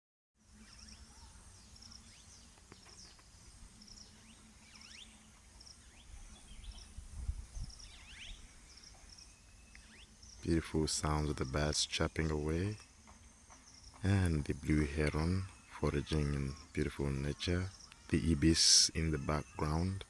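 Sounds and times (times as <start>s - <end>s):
insect-like chirp: 0.4s - 20.0s
wild birds chirping: 0.4s - 20.0s.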